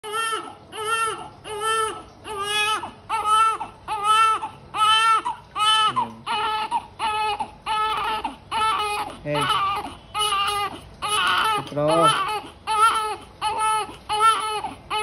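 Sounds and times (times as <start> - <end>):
baby crying: 0.0 - 15.0.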